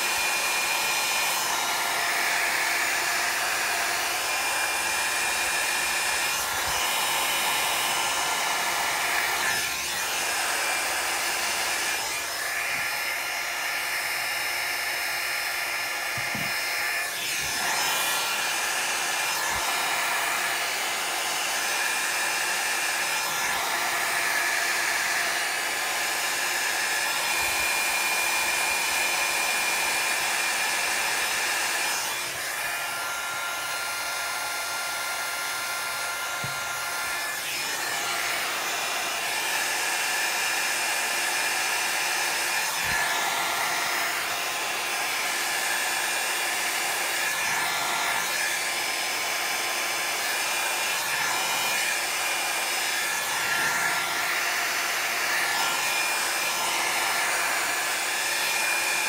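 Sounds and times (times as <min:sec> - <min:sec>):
hot-air tool blowing: 0:00.0 - 0:59.0.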